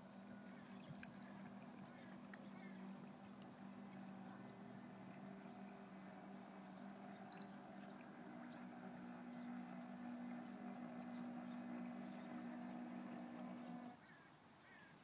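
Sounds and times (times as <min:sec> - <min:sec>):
electric boat motors humming: 0:00.0 - 0:14.0.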